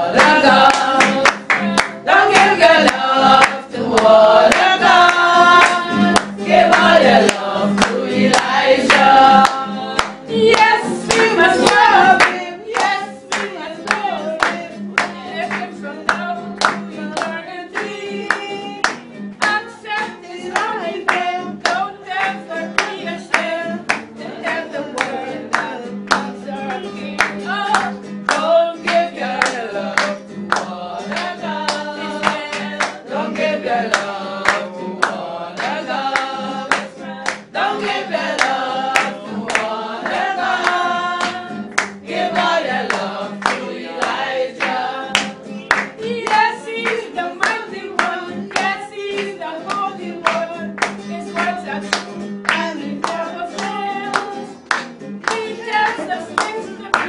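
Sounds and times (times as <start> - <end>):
hand-clapping on the beat: 0.0 - 57.0
worship singing: 0.0 - 57.0.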